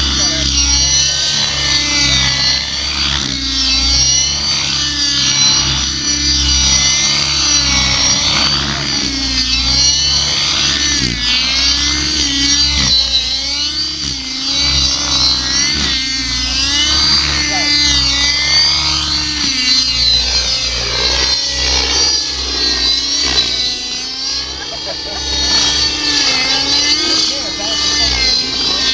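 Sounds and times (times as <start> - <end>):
rc helicopter rotor whine: 0.0 - 28.9.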